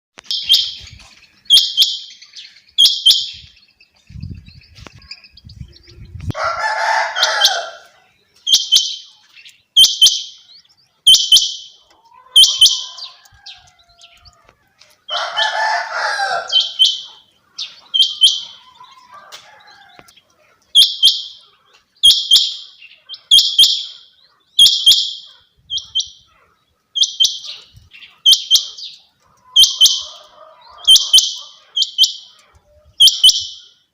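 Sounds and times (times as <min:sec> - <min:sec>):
longer lower bird call: 0:04.6 - 0:26.3, 0:26.9 - 0:32.4, 0:33.0 - 0:33.9
quail calling: 0:05.9 - 0:09.1, 0:09.8 - 0:33.9.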